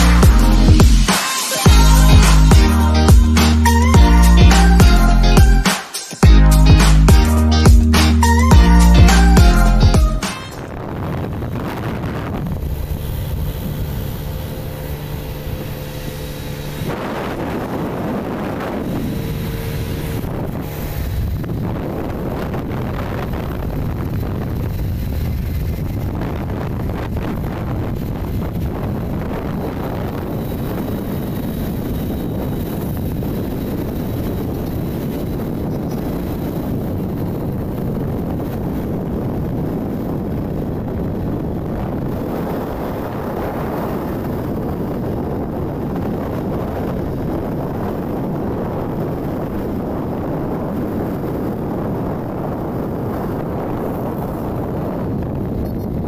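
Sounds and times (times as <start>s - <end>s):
motorcycle running: 0.0s - 1.1s, 1.7s - 5.6s, 6.2s - 56.0s
road noise: 0.0s - 56.0s
wind buffeting microphone: 10.6s - 56.0s.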